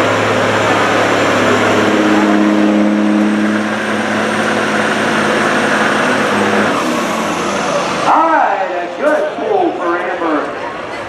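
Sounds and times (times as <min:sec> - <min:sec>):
truck diesel engine running hard: 0:00.0 - 0:11.0.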